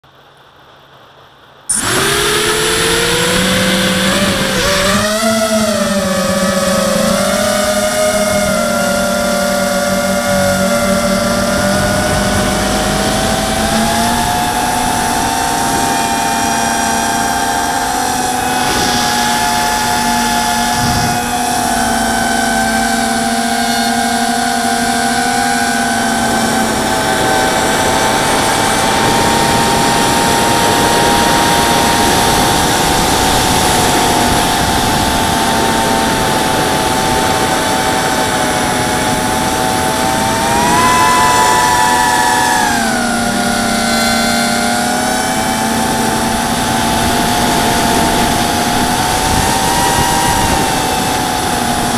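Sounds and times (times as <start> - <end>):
drone motors whining: 1.7 - 51.9
rushing noise: 1.7 - 51.9.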